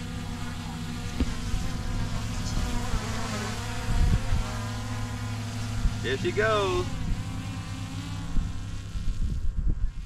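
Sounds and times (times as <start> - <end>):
drone propellers buzzing: 0.0 - 10.0.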